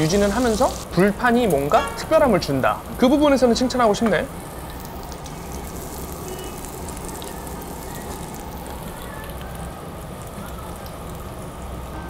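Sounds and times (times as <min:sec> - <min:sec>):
meat sizzling on grill: 0:00.0 - 0:11.9.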